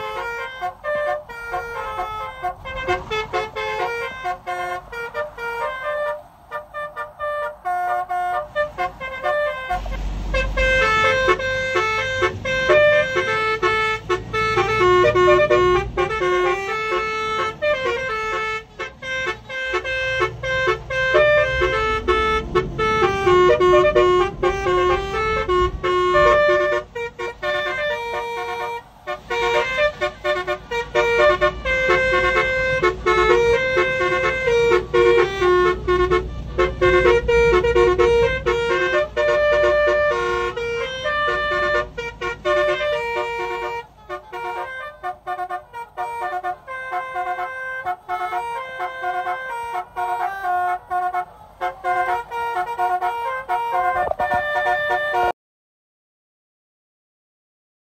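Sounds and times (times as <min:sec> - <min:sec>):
car on wet road rumble: 0:00.0 - 0:55.3
musical car horns playing tune: 0:00.0 - 0:55.4.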